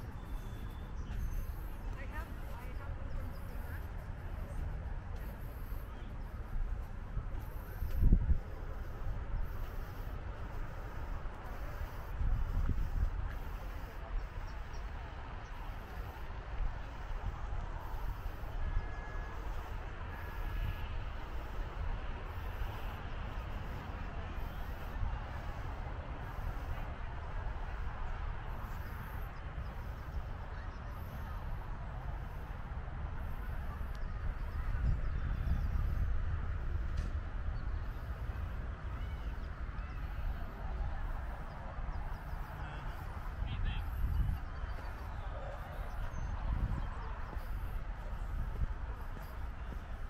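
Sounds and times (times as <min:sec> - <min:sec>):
distant voices chattering: 0:00.0 - 0:50.0
outdoor rumble and hiss: 0:00.0 - 0:50.0.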